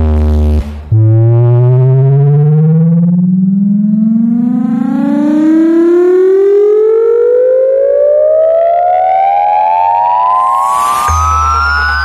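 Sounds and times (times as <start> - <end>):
siren-like rising tone: 0.6 - 12.0.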